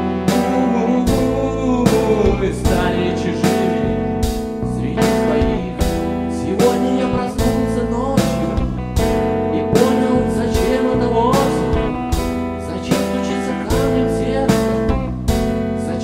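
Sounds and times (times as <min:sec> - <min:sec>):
steady beat: 0:00.0 - 0:15.8
guitar: 0:00.0 - 0:16.0
sustained chords: 0:00.0 - 0:16.0.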